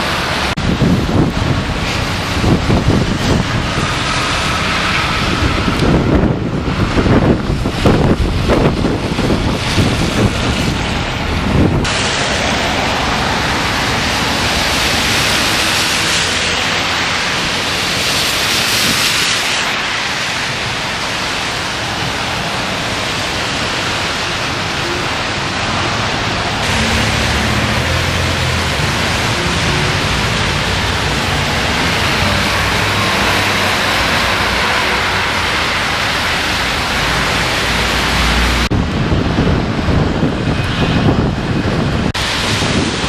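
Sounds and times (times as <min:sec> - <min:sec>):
wind buffeting microphone: 0:00.0 - 0:19.8, 0:21.6 - 0:43.0.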